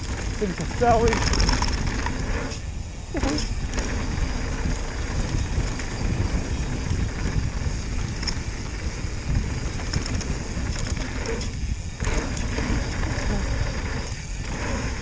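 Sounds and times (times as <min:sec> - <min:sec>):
bike clicks: 0:00.0 - 0:15.0
wind buffeting microphone: 0:00.0 - 0:15.0.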